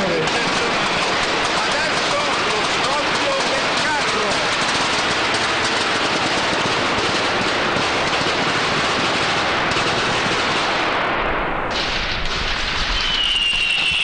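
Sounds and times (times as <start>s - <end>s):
firecrackers crackling rapidly: 0.0s - 14.0s.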